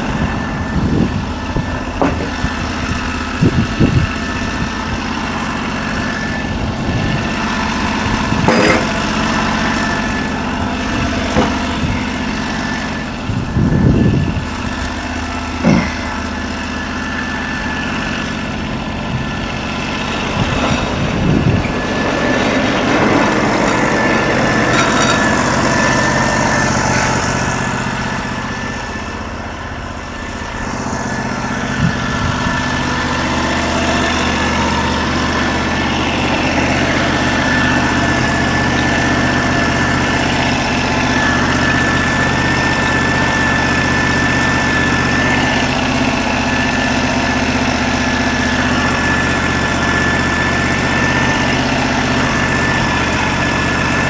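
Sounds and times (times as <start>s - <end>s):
sawmill engine running: 0.0s - 54.0s
thin steady whine: 0.0s - 54.0s.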